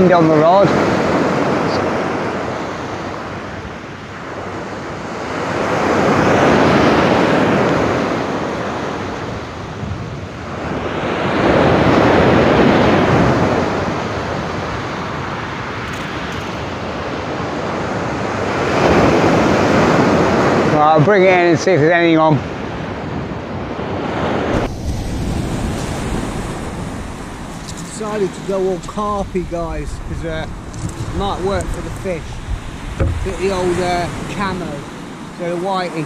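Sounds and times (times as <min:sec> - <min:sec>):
sea waves breaking on beach: 0:00.0 - 0:36.0.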